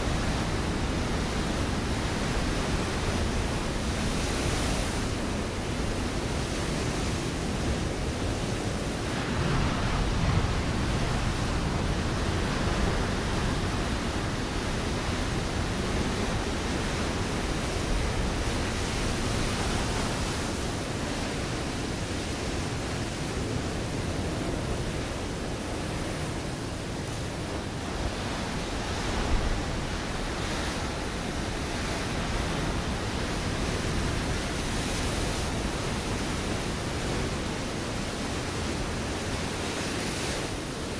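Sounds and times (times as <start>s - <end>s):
waves breaking on rocky shore: 0.0s - 40.9s.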